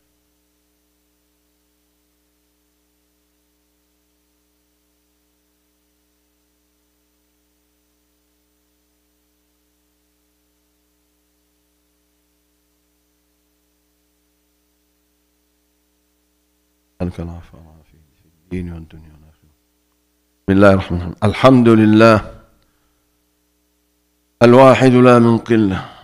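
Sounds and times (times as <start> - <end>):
faint electrical hum: 0.0 - 26.0.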